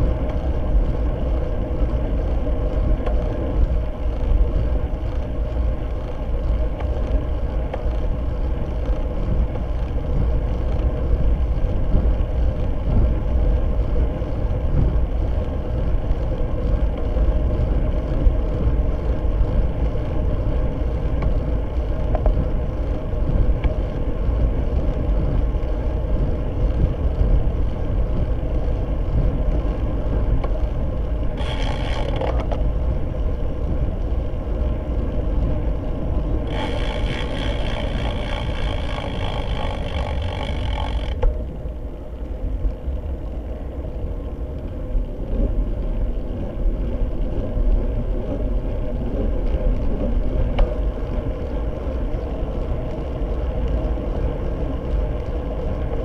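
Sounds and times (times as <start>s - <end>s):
faint steady hum: 0.0s - 56.0s
wind and road rumble: 0.0s - 56.0s.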